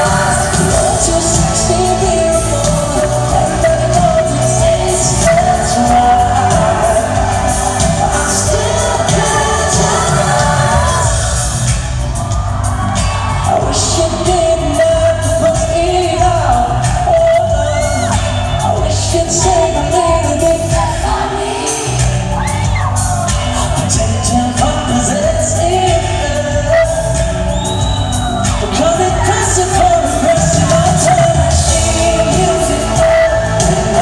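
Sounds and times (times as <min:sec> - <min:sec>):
person singing: 0:00.0 - 0:12.3, 0:12.9 - 0:27.7, 0:28.3 - 0:34.0
loud amplified band: 0:00.0 - 0:34.0.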